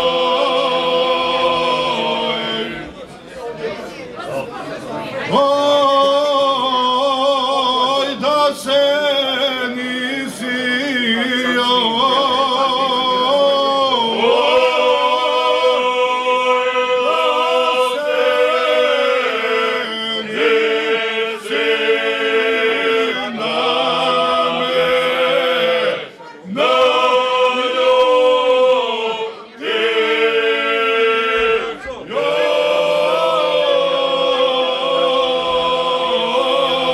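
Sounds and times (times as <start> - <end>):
men singing in harmony: 0.0 - 2.9, 5.3 - 36.9.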